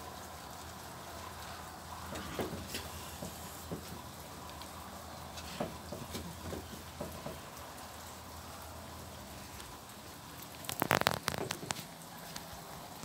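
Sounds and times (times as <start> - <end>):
rain pattering on wooden deck: 0.0 - 13.0.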